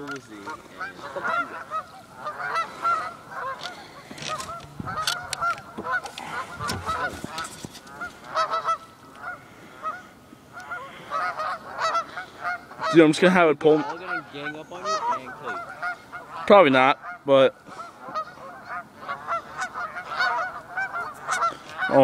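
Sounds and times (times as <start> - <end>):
goose honking: 0.0 - 22.0.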